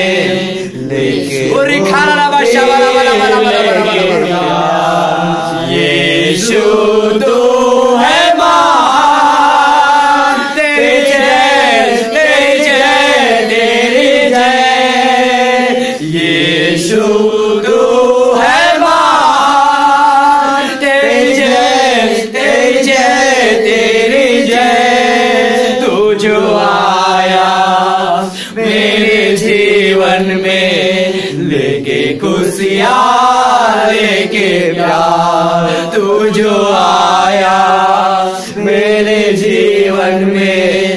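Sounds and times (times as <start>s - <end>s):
group singing worship song: 0.0s - 40.9s.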